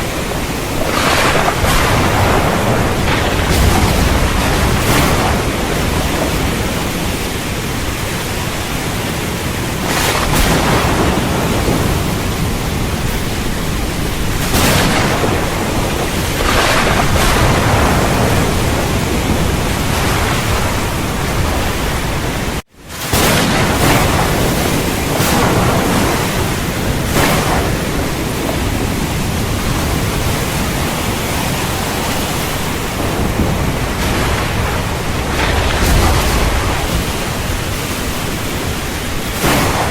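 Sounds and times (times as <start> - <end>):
heavy rain: 0.0 - 39.9
thunder: 0.0 - 39.9.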